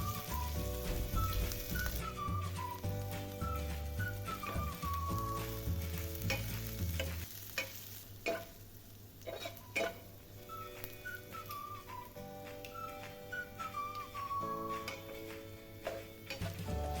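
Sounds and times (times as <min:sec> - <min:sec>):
oil sizzling: 0:00.0 - 0:17.0.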